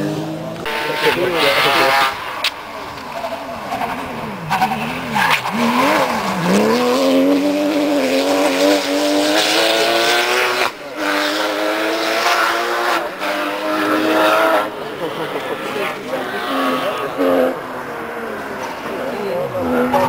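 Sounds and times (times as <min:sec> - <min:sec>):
rally car engine accelerating: 0:00.0 - 0:20.0.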